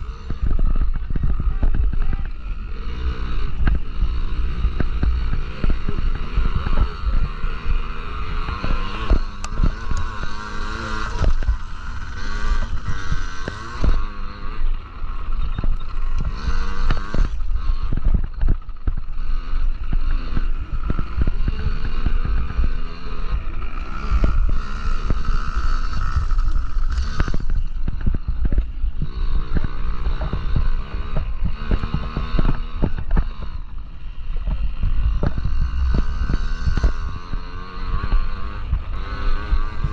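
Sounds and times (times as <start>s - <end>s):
minibike engines revving: 0.0s - 39.9s.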